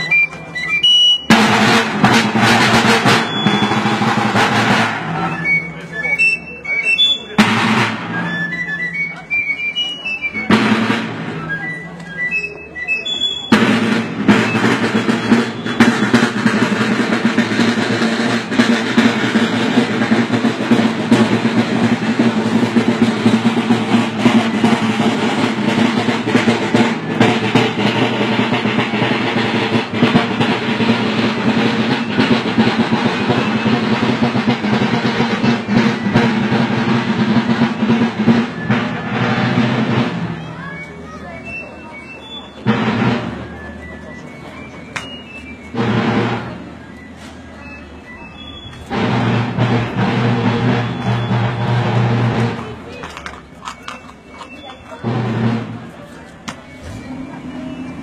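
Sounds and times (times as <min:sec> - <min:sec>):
marching snare drums: 0:00.0 - 0:58.0.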